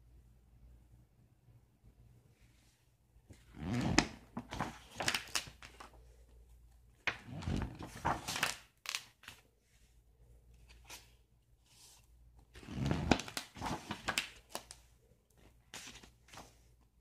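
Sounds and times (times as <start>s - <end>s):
rustling and crinkling handling noise: 2.5s - 17.0s.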